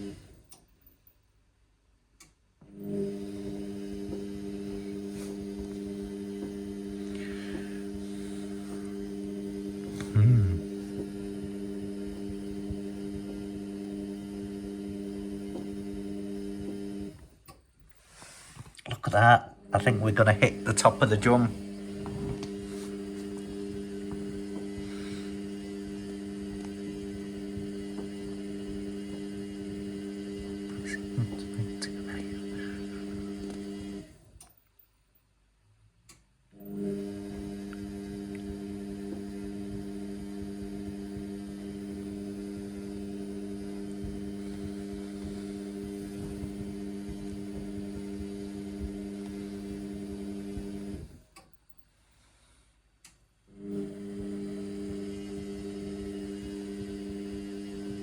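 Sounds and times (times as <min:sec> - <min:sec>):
washing machine humming: 0:00.0 - 0:00.6, 0:02.6 - 0:17.6, 0:19.0 - 0:34.4, 0:36.5 - 0:51.3, 0:53.5 - 0:58.0.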